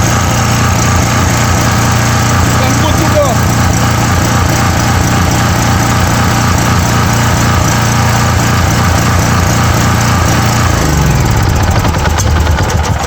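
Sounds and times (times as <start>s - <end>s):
portable generator engine running: 0.0s - 13.0s.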